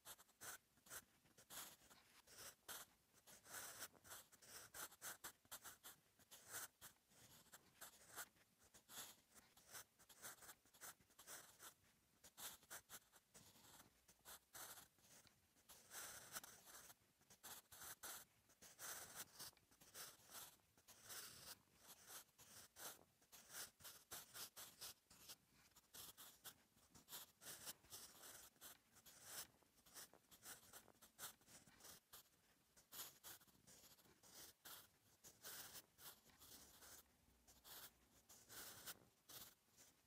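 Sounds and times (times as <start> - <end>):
pencil scratching on paper: 0.0 - 40.0.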